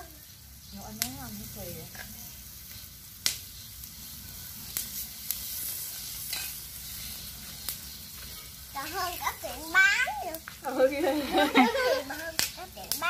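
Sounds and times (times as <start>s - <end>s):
clams sizzling on a grill: 0.0s - 13.0s.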